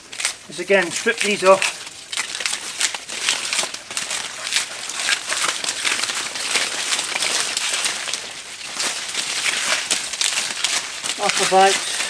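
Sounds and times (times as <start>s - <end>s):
leaves tearing and crackling: 0.0s - 12.0s.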